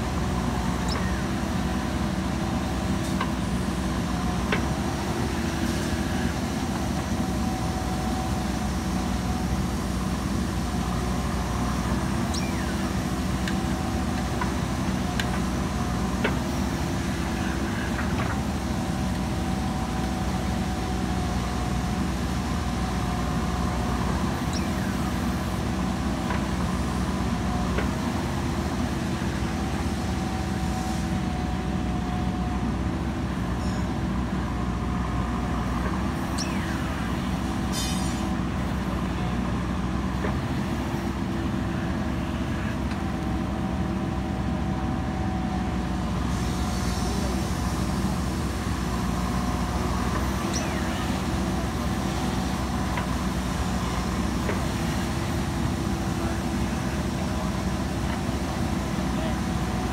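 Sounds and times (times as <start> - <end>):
backhoe diesel engine running: 0.0 - 59.9.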